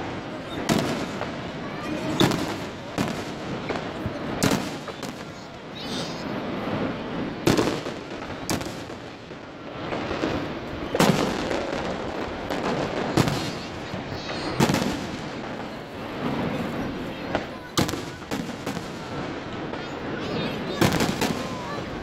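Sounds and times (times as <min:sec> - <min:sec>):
fireworks bangs: 0:00.0 - 0:22.0
fireworks crackle: 0:00.0 - 0:22.0.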